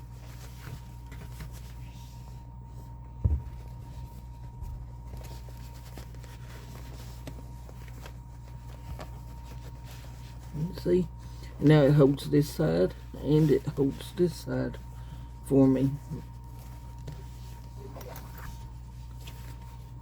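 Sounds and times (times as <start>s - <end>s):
fabric handling: 0.0s - 20.0s
steady low hum: 0.0s - 20.0s.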